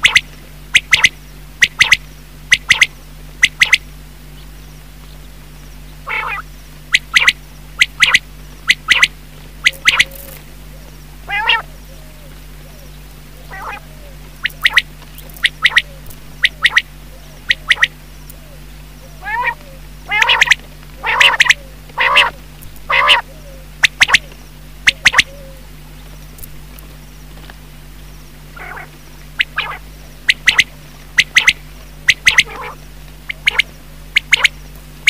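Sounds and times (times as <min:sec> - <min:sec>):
quail calling: 0:00.0 - 0:04.5, 0:05.8 - 0:25.7, 0:28.5 - 0:34.6.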